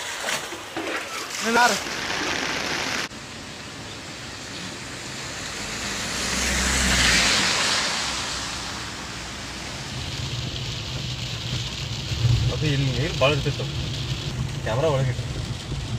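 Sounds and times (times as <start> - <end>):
tyres swishing through water: 0.0 - 3.1, 5.4 - 15.9
car engine rumble: 3.1 - 15.9.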